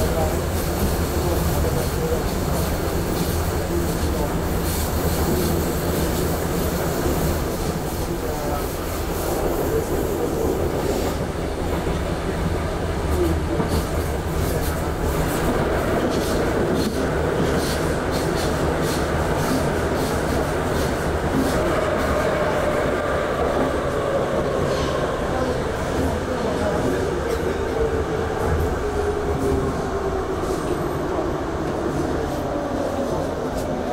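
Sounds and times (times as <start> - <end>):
rail noise: 0.0 - 33.9
train low hum: 0.0 - 33.9.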